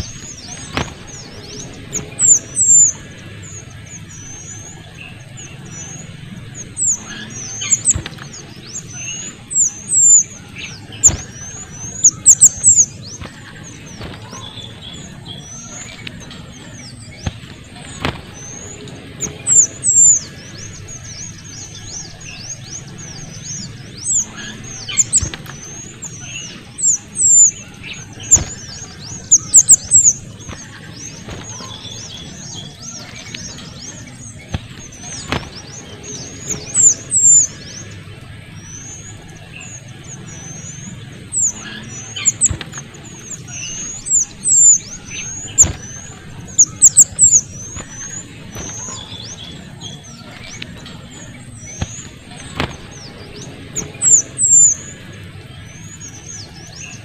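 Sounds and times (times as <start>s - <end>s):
bird chirping chatter: 0.0s - 57.0s
sharp bird notes: 0.0s - 57.0s.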